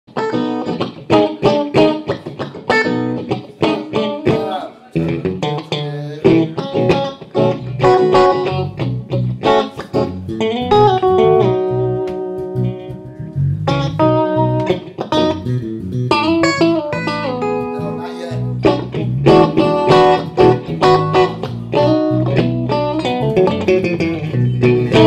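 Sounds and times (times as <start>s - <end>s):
bass guitar: 0.1s - 25.0s
electric guitar lead line: 0.1s - 25.0s.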